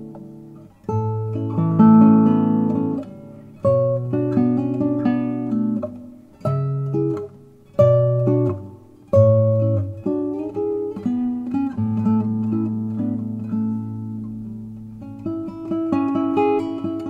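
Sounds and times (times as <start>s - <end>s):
classical guitar fingerstyle: 0.0s - 17.0s.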